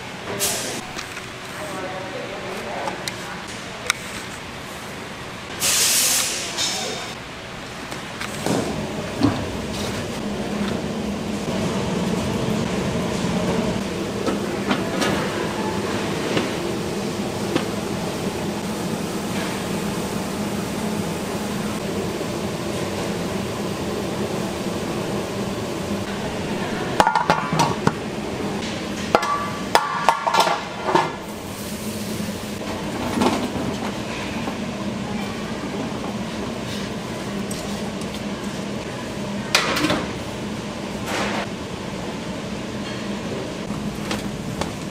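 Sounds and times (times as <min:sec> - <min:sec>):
kitchen machinery and ventilation hum: 0:00.0 - 0:44.9.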